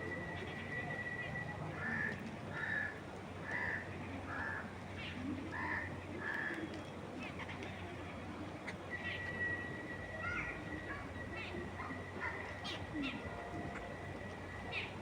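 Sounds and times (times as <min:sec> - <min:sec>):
low outdoor hiss: 0:00.0 - 0:15.0.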